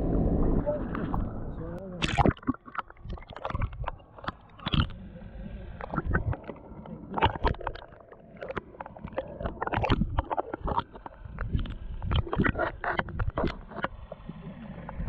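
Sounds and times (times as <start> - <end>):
water sloshing around boat: 0.0 - 15.0.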